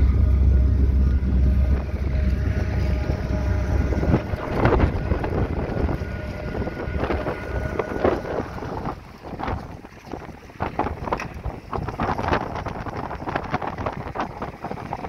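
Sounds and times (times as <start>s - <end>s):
deep low rumble: 0.0s - 15.0s
outboard motor humming: 0.0s - 15.0s
wind on microphone: 0.0s - 15.0s.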